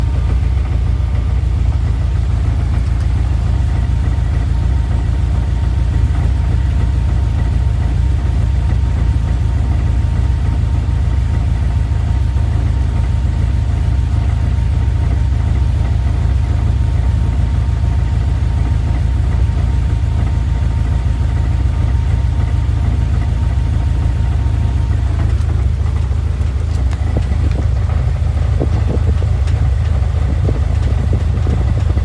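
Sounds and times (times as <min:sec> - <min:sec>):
engine idling at exhaust: 0:00.0 - 0:32.0.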